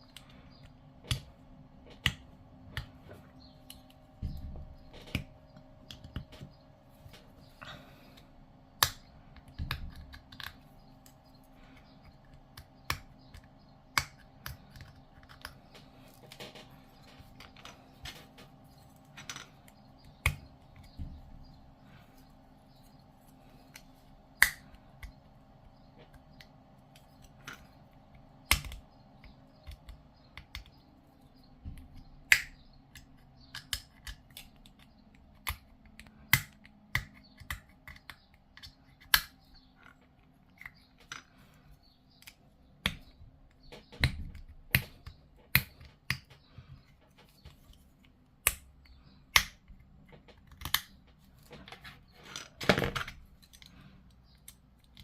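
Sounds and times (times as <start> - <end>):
faint steady hum: 0.0 - 55.0
plastic parts clicking together: 0.1 - 55.0.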